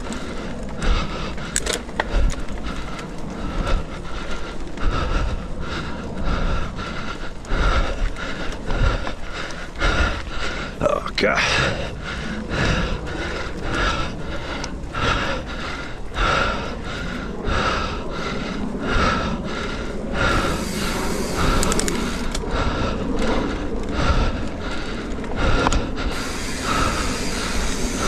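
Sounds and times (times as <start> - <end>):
bike rumbling on trail: 0.0 - 28.0
hard rhythmic breathing: 0.0 - 28.0.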